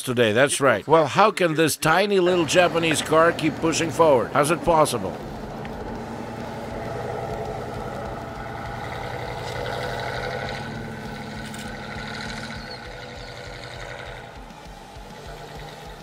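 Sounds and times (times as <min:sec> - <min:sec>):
car engine running: 0:02.3 - 0:16.0.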